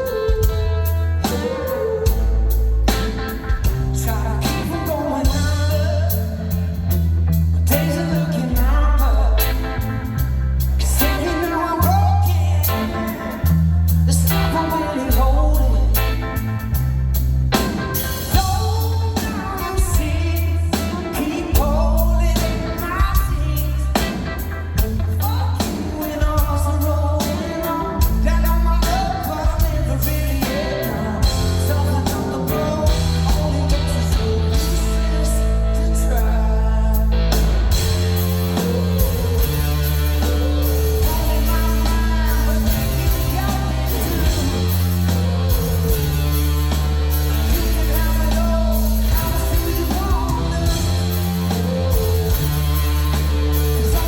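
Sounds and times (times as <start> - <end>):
drums: 0.0 - 54.0
electric guitar: 0.0 - 54.0
man singing: 0.0 - 54.0.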